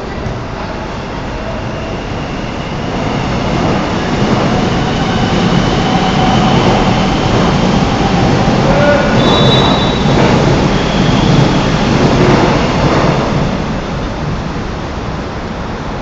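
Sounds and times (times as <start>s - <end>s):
train rumble on rails: 0.0s - 16.0s.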